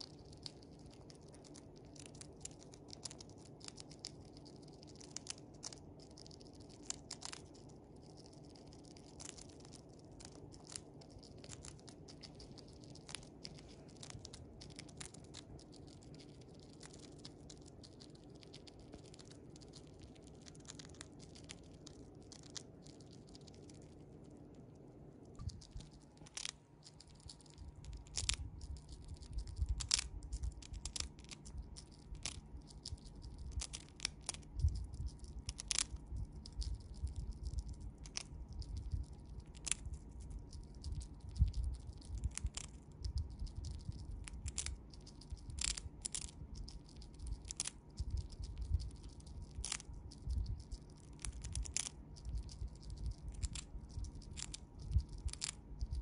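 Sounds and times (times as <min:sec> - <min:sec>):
chipmunk chewing: 0:00.0 - 0:56.0
chipmunk crunching crisp chip: 0:00.0 - 0:56.0.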